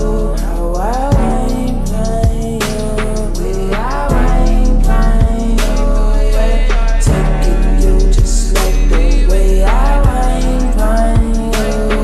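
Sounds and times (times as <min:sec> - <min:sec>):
heavy bass line: 0:00.0 - 0:12.0.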